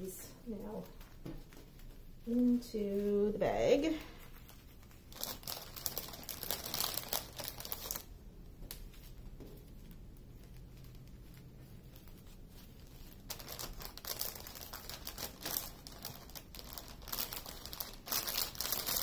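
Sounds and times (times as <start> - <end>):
plastic bags crinkling: 0.0 - 8.1, 8.7 - 19.0.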